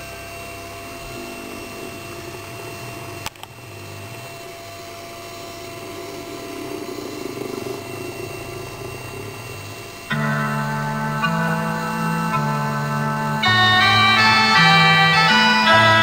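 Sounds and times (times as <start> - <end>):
low hum: 0.0 - 16.0
organ chords: 0.0 - 16.0.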